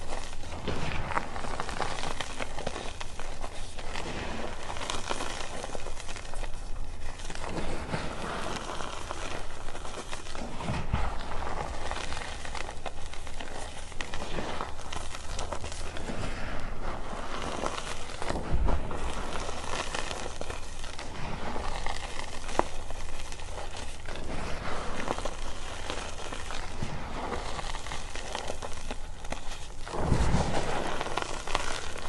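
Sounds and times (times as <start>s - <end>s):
chalk crunching in hands: 0.0s - 32.0s
powder pattering onto pile: 0.0s - 32.0s.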